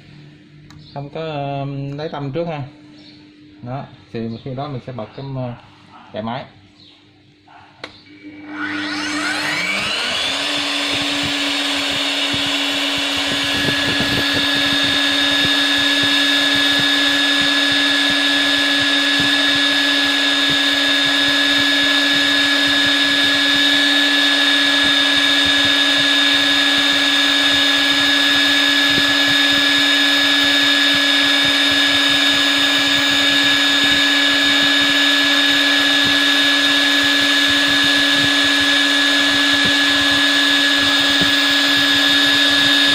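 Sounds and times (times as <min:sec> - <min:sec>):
magnetic drill motor whine: 0:08.0 - 0:42.9
drill cutter chattering in steel: 0:08.5 - 0:42.9.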